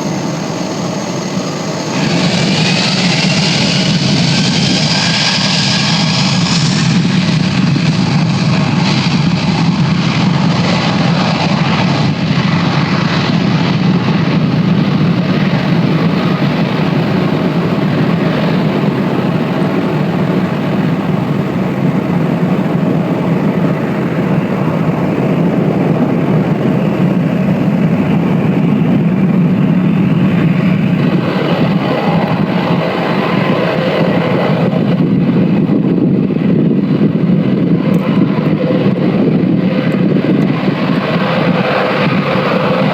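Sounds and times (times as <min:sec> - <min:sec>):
jet airliner engines roaring: 0:00.0 - 0:42.9.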